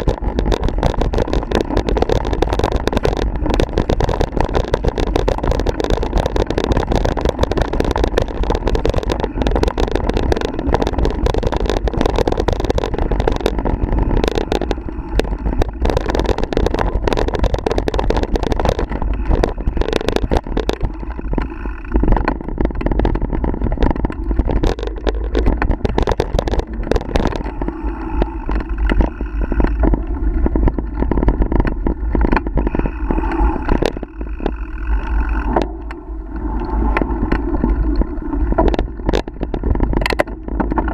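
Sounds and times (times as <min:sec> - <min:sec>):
bike rattling and knocking: 0:00.0 - 0:35.9, 0:37.2 - 0:40.9
wind and tyre noise: 0:00.0 - 0:40.9.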